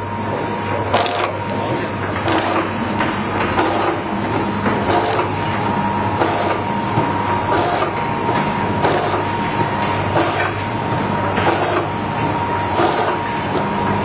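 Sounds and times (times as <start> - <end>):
packing machine humming: 0.0 - 14.0.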